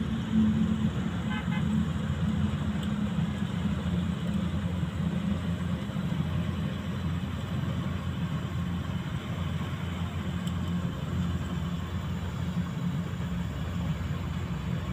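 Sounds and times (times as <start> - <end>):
harvester engine drone: 0.0 - 14.9.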